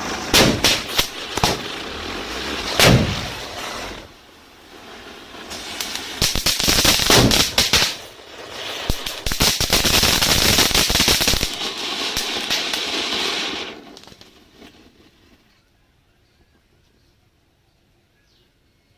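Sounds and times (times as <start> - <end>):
firecrackers cracking: 0.0 - 15.5
hissing burning powder: 0.0 - 15.5.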